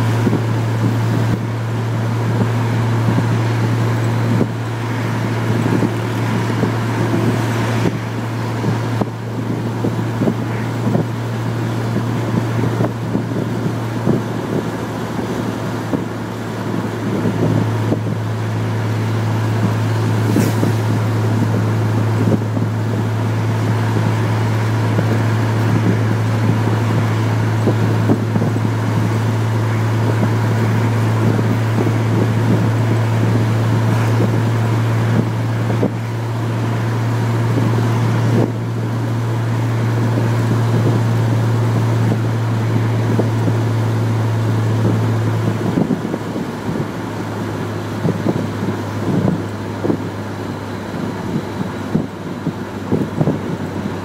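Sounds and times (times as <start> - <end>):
car engine droning: 0.0 - 54.0
road noise hiss: 0.0 - 54.0.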